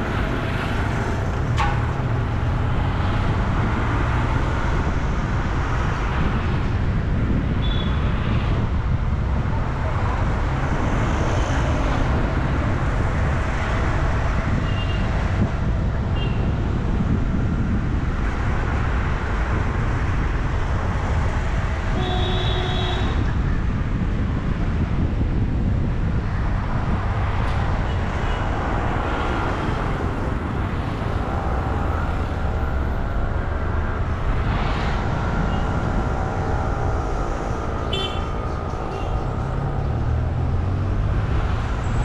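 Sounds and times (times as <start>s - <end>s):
traffic rumble with tyre hiss: 0.0s - 42.0s.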